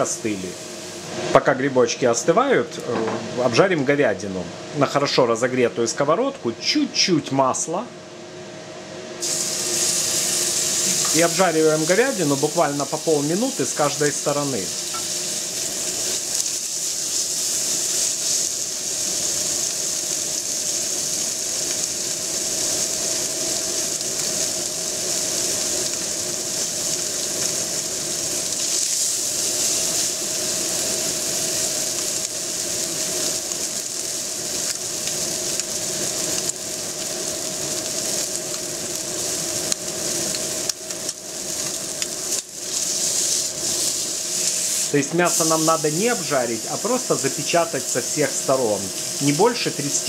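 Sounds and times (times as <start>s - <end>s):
meat sizzling in a frying pan: 0.0s - 1.3s, 9.2s - 50.0s.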